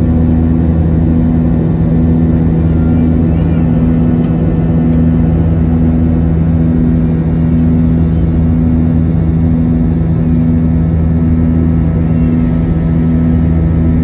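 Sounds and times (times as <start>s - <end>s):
jet engine drone in cabin: 0.0s - 14.0s.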